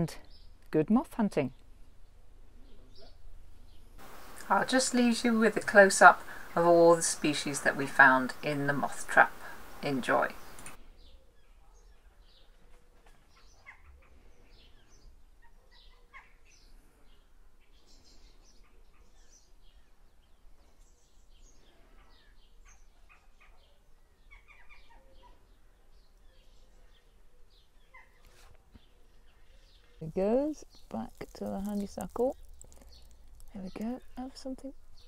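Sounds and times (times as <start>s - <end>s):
faint birdsong chirps and trills: 0.0s - 35.0s.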